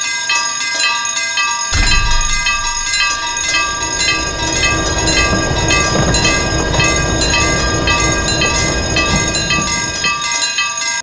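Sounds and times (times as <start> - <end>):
railroad crossing bells ringing: 0.8 - 11.0
train rumbling past: 1.8 - 10.7.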